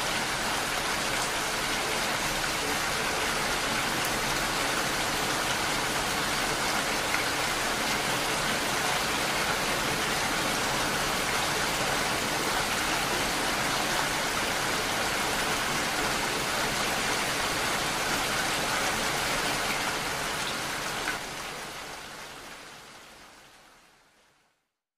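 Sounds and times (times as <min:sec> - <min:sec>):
heavy rain on hard surface: 0:00.0 - 0:24.8.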